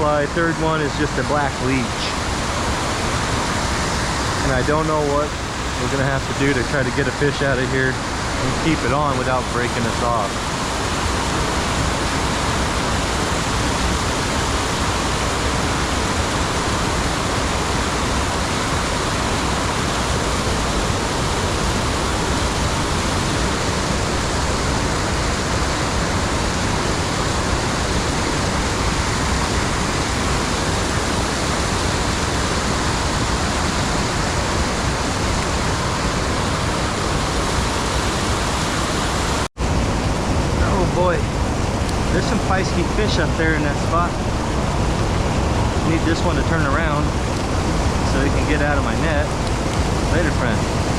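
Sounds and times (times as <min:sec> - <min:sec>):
creek water rushing: 0:00.0 - 0:50.9.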